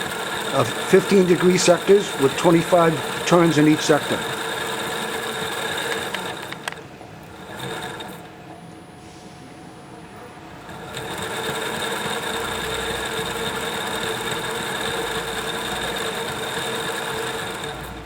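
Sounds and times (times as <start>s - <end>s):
winding machine humming: 0.0s - 18.0s.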